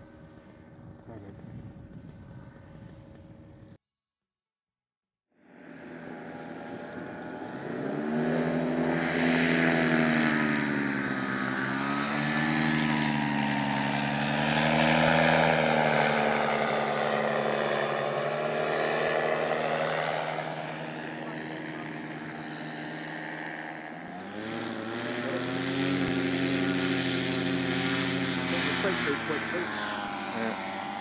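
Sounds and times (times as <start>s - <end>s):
paramotor engine droning: 0.0s - 3.8s, 5.4s - 31.0s.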